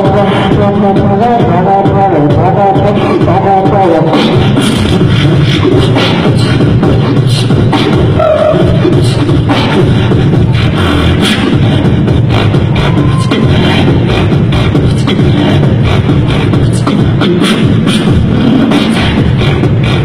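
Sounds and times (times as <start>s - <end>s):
amplified beatboxing: 0.0s - 20.0s.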